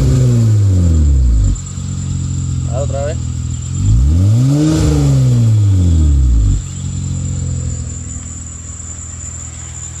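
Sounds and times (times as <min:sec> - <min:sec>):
car engine idling: 0:00.0 - 0:10.0
car engine revving down: 0:00.0 - 0:10.0
low engine drone: 0:00.0 - 0:10.0.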